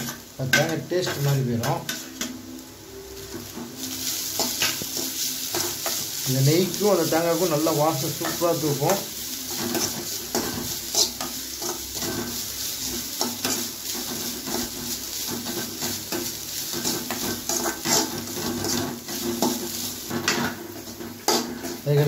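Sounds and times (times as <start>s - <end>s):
spoon scraping metal pan: 0.0s - 2.4s, 3.4s - 21.8s
frying sizzle: 0.0s - 22.0s.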